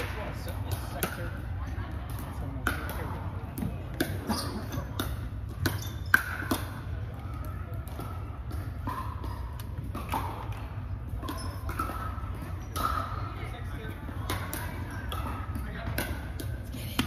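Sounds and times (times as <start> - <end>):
balls bouncing on wooden floor: 0.0 - 17.0
paddles hitting balls: 0.0 - 17.0
steady low hum: 0.0 - 17.0.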